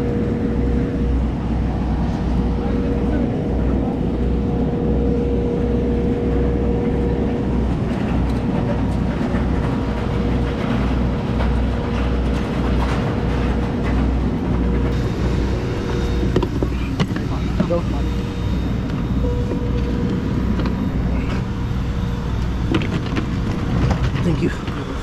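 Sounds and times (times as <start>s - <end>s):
aircraft cabin drone: 0.0s - 25.0s.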